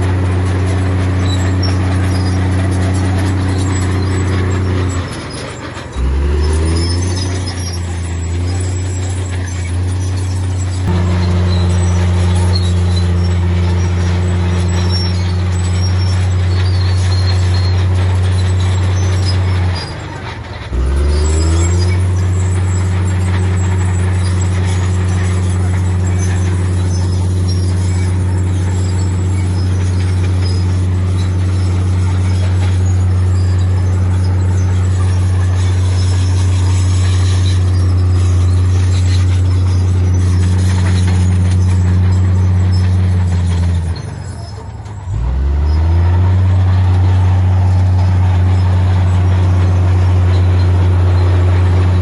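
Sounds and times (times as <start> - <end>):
heavy diesel machinery humming: 0.0 - 52.0.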